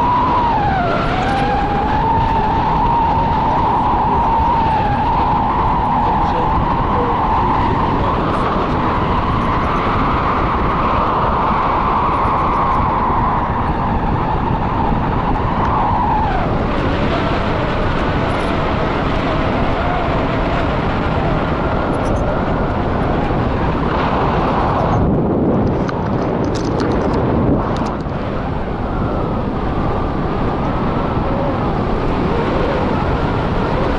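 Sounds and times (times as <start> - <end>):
strong wind rushing over microphone: 0.0 - 33.9.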